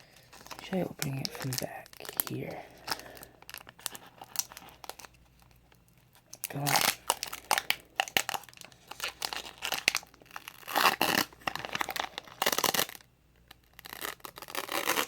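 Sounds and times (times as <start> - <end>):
foil wrapper crinkling and tearing: 0.0 - 15.0.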